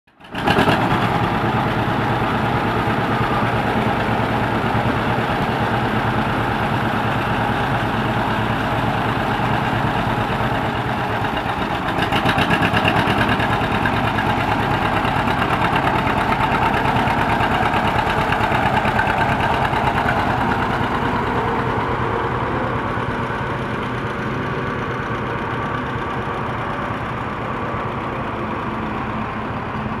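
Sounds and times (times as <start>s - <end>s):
tractor engine running: 0.1s - 30.0s.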